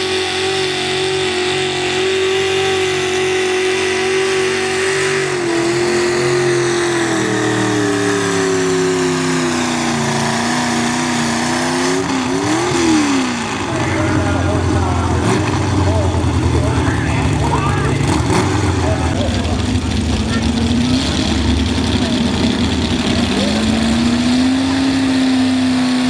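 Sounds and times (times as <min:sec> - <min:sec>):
truck engine at high revs: 0:00.0 - 0:26.0.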